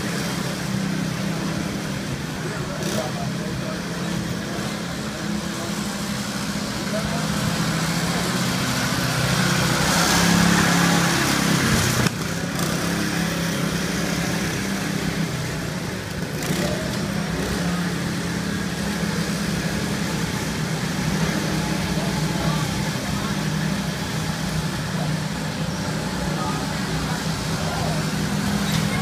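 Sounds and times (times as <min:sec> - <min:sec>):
go-kart engines droning: 0:00.0 - 0:29.0.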